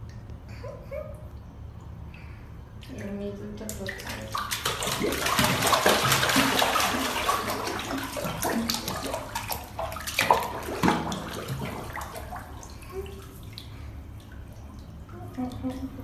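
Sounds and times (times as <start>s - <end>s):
bathwater splashing: 2.8s - 16.0s.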